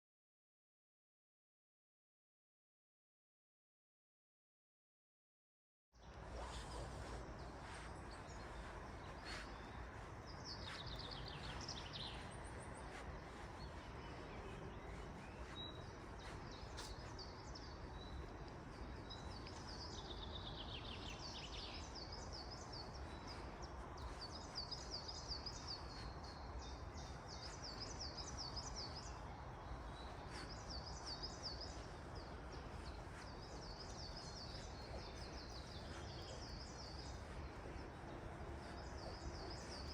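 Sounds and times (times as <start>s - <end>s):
songbirds singing: 6.0s - 39.9s.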